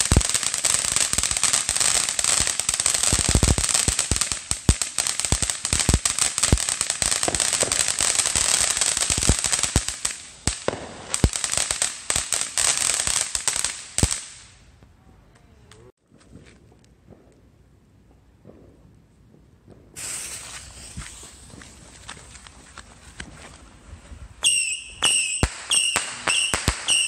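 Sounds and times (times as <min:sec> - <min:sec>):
firework fountain hissing and crackling: 0:00.0 - 0:14.5, 0:19.7 - 0:27.0.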